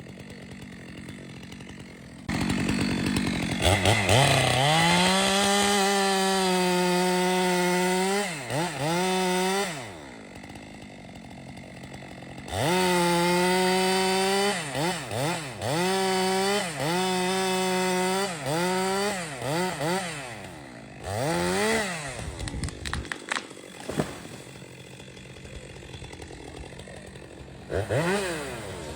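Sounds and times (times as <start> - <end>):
chainsaw revving and idling: 0.0 - 28.9.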